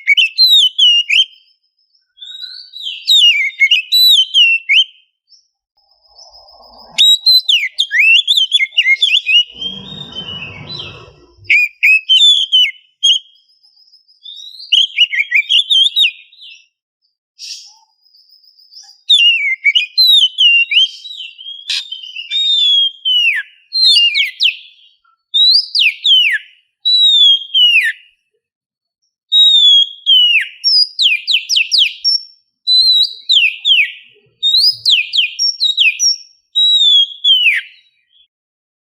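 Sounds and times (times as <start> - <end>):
songbird whistled song: 0.0 - 16.8, 17.4 - 28.2, 29.3 - 38.3.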